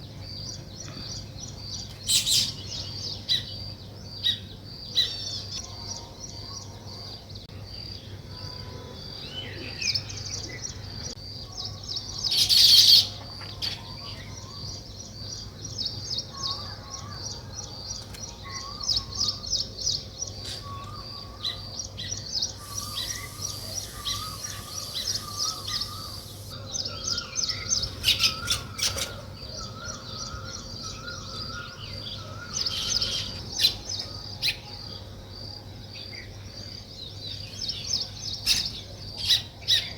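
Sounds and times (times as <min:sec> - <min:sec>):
weaver birds chirping: 0:00.0 - 0:39.9.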